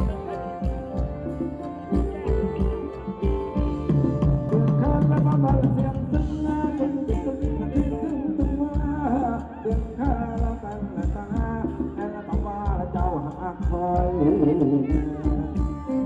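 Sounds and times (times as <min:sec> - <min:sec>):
drum kit beat: 0:00.0 - 0:16.0
electric guitar: 0:00.0 - 0:16.0
keyboard: 0:00.0 - 0:16.0
person singing: 0:00.0 - 0:16.0.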